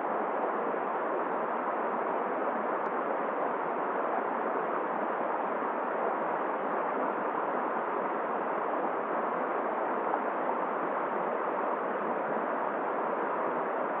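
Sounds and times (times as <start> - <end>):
flowing river: 0.0 - 14.0.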